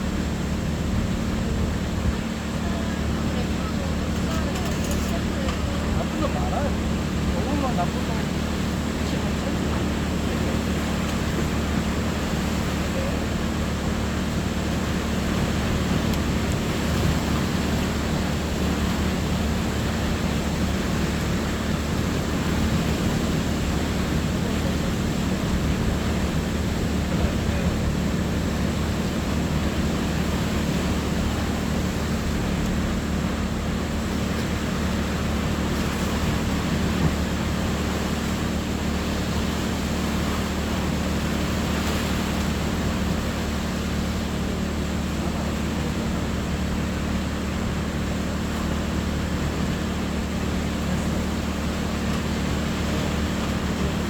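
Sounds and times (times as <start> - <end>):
engine drone: 0.0 - 54.0.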